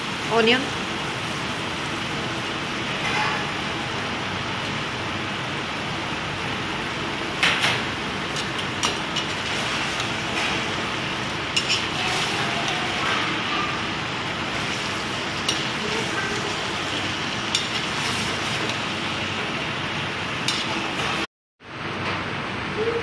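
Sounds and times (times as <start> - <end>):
food sizzling in a pan: 0.0 - 21.3.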